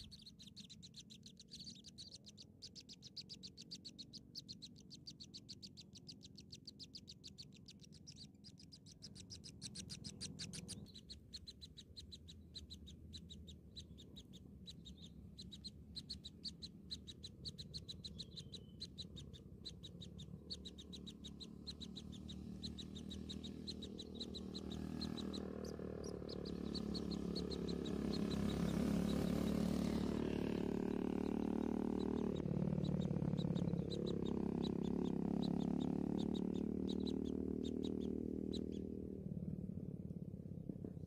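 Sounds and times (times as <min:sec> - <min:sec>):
small birds chirping: 0:00.0 - 0:39.6.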